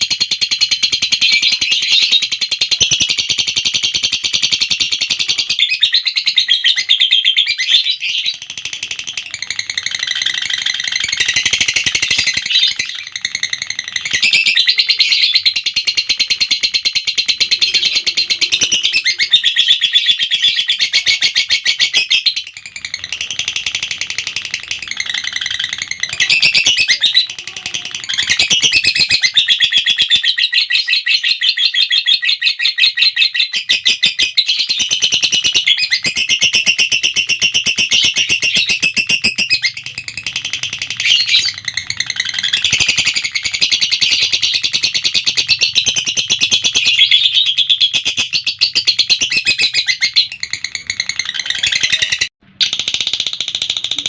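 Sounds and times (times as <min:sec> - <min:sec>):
lovebird chattering: 0:00.0 - 0:54.0.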